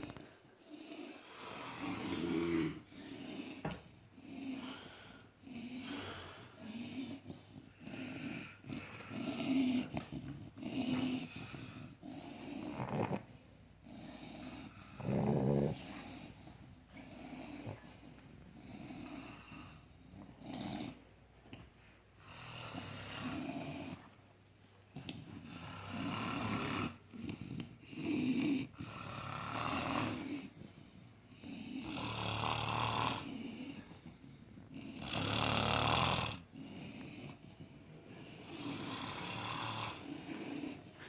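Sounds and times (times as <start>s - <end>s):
several people snoring: 0.7s - 16.3s, 18.6s - 21.0s, 22.2s - 24.0s, 25.4s - 30.6s, 31.3s - 33.8s, 34.7s - 37.4s, 38.2s - 40.8s.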